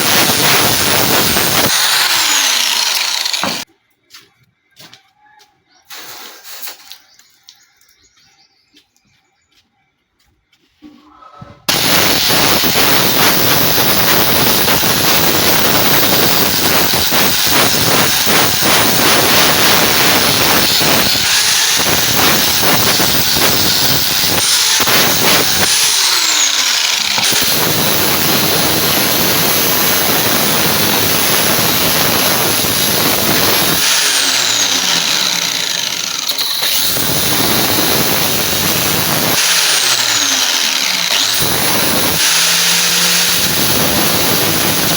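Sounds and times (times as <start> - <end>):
power tool grinding knife blade: 0.0 - 3.7, 11.7 - 44.9.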